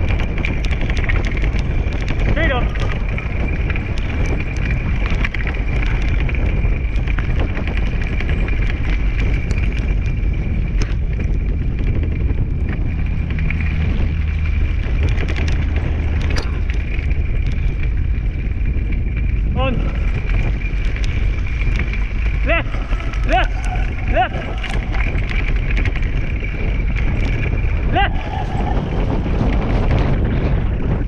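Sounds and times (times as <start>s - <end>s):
wheeled rig rolling on dirt path: 0.0s - 31.0s
wind buffeting microphone: 0.0s - 31.0s.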